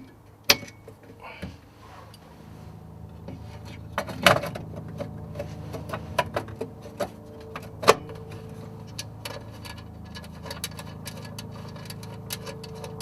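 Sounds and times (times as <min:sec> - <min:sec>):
hand tools clicking and knocking: 0:00.0 - 0:02.2, 0:03.2 - 0:13.0
steady low hum: 0:00.0 - 0:13.0.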